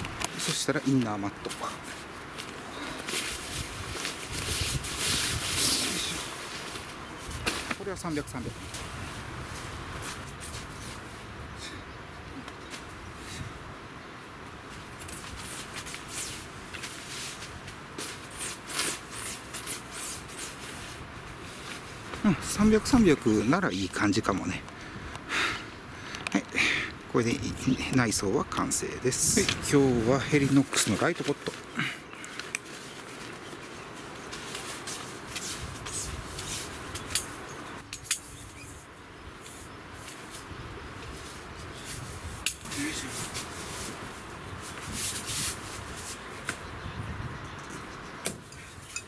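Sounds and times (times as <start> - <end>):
tent sheet rustling underfoot: 0.0 - 11.5, 14.5 - 24.6, 27.6 - 46.7.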